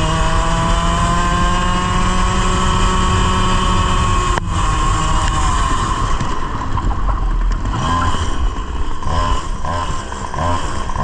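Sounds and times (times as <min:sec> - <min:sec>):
kart engine revving: 0:00.0 - 0:11.0.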